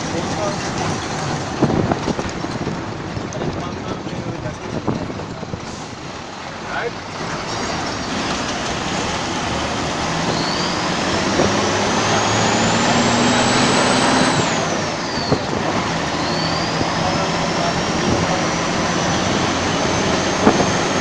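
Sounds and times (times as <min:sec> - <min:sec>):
bus diesel engine droning: 0:00.0 - 0:21.0.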